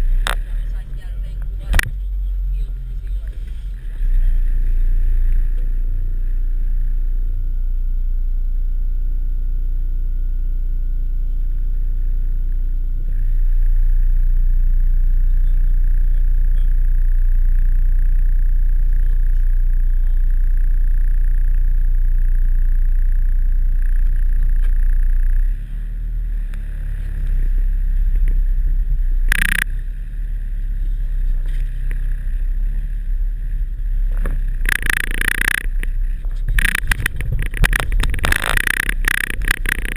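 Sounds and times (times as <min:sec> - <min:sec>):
van engine running under load: 0:00.0 - 0:39.9.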